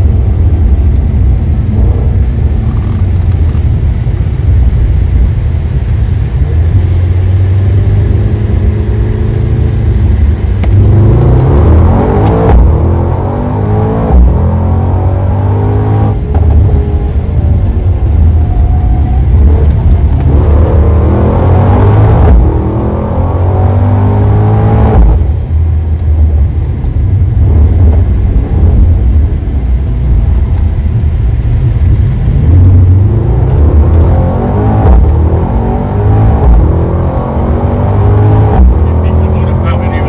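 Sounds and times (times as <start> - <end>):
car engine accelerating hard: 0.0 - 40.0.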